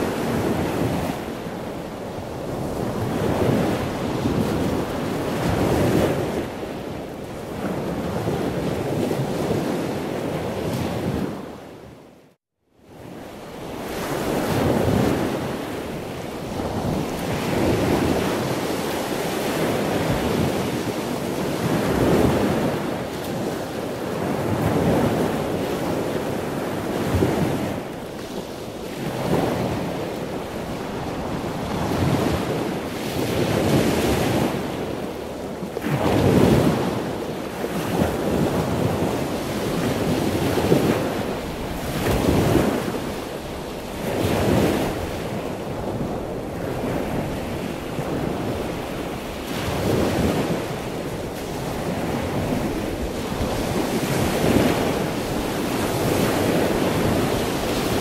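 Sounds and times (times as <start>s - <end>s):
sea waves washing in: 0.0s - 11.8s, 13.0s - 58.0s.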